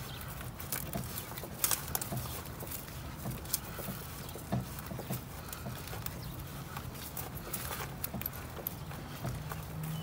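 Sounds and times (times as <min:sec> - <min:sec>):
footsteps on grass: 0:00.0 - 0:10.0.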